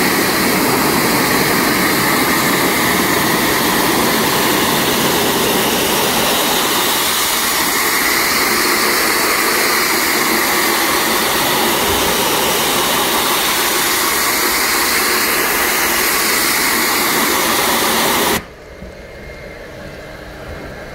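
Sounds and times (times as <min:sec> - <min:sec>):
pressure washer spray hiss: 0:00.0 - 0:18.5.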